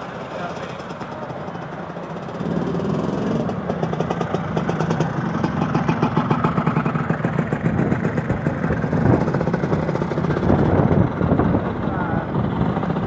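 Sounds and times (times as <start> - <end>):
motor scooter engine running: 0.6 - 13.0.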